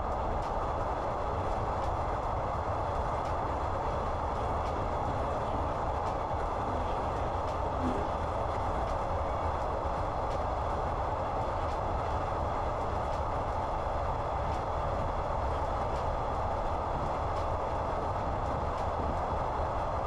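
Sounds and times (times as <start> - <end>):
passenger train rumbling: 0.0 - 20.0.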